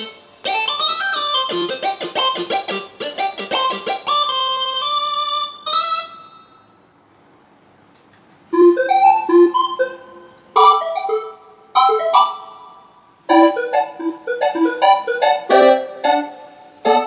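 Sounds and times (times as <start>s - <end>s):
synthesizer piano chords: 0.0s - 6.2s, 8.6s - 17.0s.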